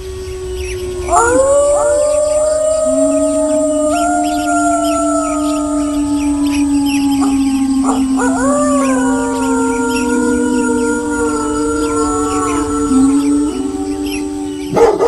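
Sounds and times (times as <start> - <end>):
wolves howling: 0.0 - 15.0.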